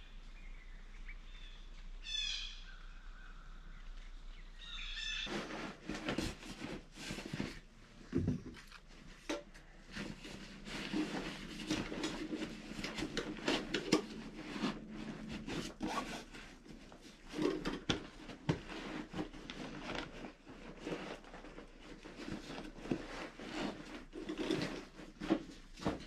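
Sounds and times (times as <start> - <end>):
rustling and rubbing: 4.9 - 26.0.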